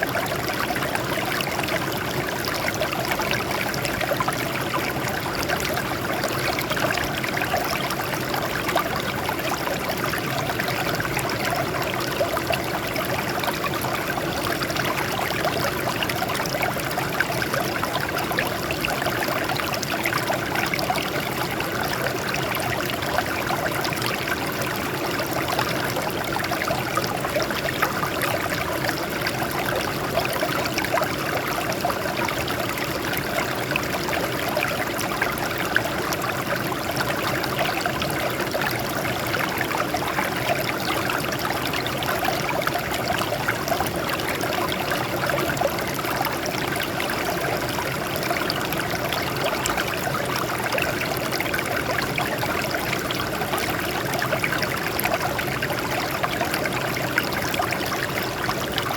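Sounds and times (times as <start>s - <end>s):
water flowing over rocks: 0.0s - 58.9s.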